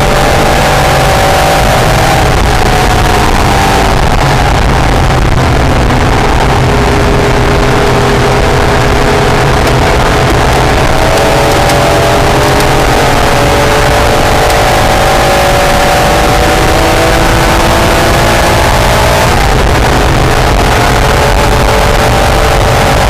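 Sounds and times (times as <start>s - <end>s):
car engine running hard: 0.0s - 23.0s
wind and road noise: 0.0s - 23.0s.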